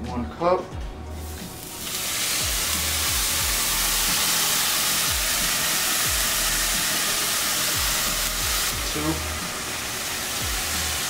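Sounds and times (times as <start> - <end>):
steam hissing: 1.2 - 11.0
water poured into hot pot: 1.2 - 11.0.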